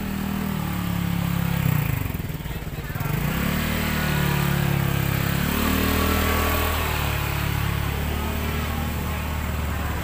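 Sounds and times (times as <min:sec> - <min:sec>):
scooter engine humming: 0:00.0 - 0:10.0.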